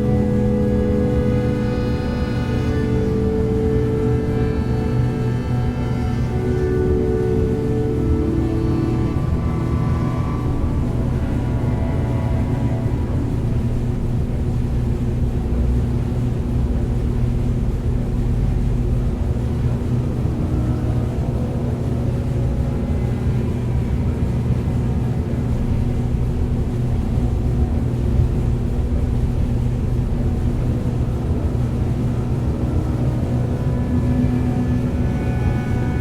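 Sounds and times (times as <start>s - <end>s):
low rumble: 0.0s - 36.0s
steady low hum: 0.0s - 36.0s.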